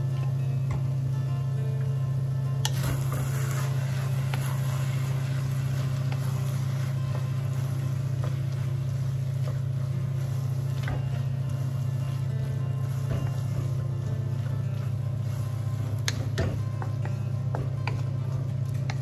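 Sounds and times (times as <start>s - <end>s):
low hum: 0.0s - 19.0s
spatula scraping a wok: 2.7s - 19.0s.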